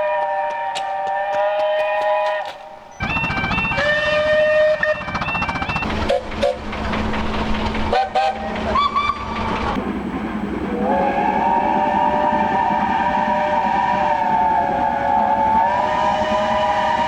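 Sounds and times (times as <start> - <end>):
locomotive rushing noise: 0.0 - 17.0
steam locomotive whistles: 0.0 - 17.0.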